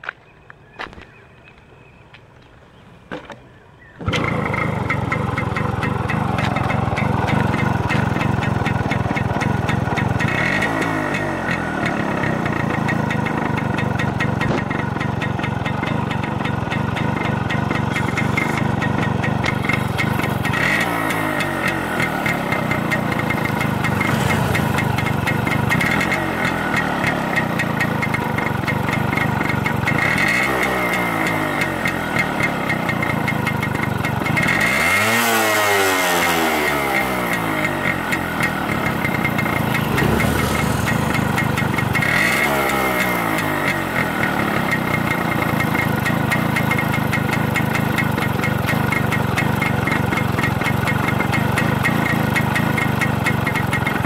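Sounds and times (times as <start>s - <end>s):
motorcycle engine starting and idling: 3.1s - 54.0s
engine throttle blips: 3.2s - 54.0s.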